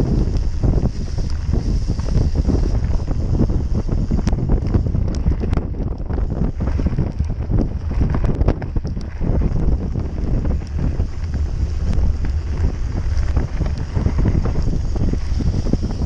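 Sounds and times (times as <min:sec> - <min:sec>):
bike rumbling over rough trail: 0:00.0 - 0:16.0
wind buffeting microphone: 0:00.0 - 0:16.0
bike clicks and knocks: 0:00.1 - 0:16.0.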